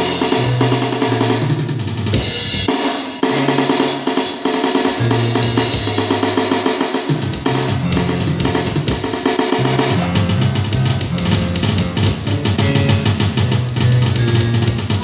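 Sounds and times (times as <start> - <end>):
held low bass notes: 0.0 - 2.7, 5.0 - 15.0
fast drum kit playing: 0.0 - 15.0.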